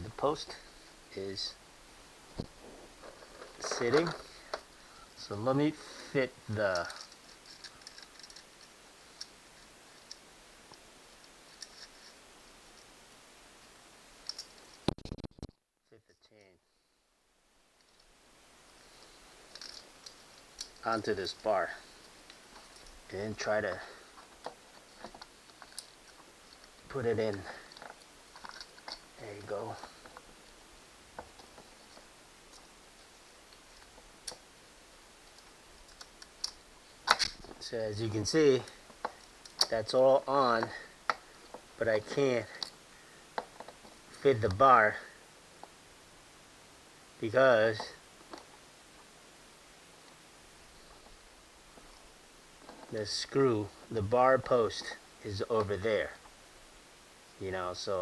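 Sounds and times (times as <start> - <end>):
low steady hiss: 0.0 - 58.0.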